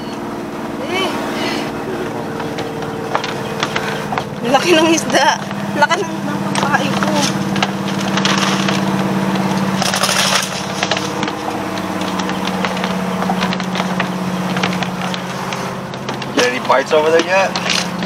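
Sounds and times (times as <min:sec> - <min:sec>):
motor engine running: 0:00.0 - 0:18.0.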